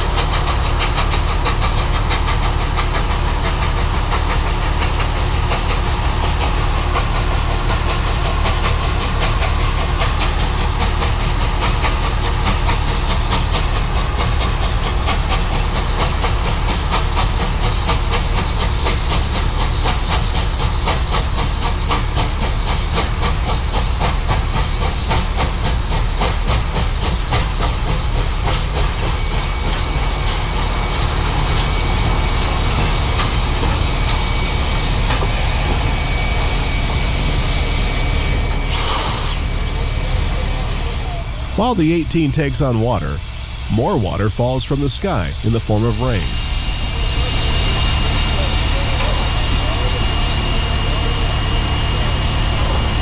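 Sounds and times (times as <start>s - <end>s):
steam locomotive clatter: 0.0s - 41.7s, 46.1s - 53.0s
hissing steam: 0.0s - 53.0s.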